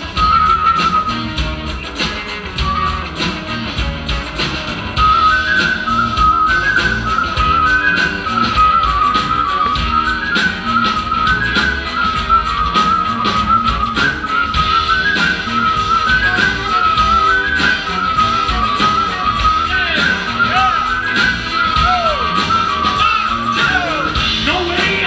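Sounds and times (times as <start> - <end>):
live band playing: 0.0 - 25.0
whistle-like melody: 0.0 - 25.0.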